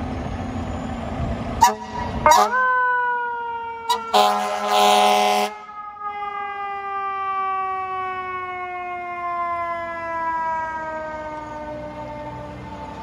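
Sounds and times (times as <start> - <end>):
mechanical siren winding down: 1.6 - 13.0.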